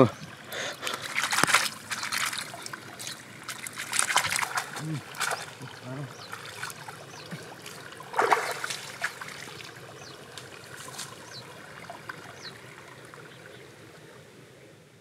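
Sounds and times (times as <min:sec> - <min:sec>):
water splashing and trickling: 0:00.0 - 0:14.3.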